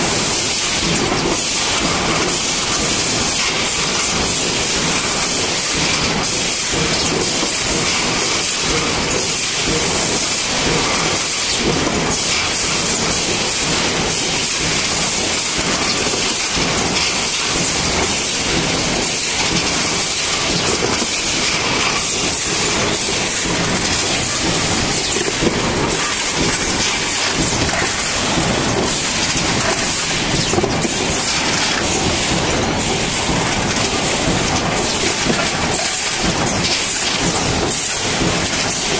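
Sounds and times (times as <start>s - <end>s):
machine hiss: 0.0s - 38.9s.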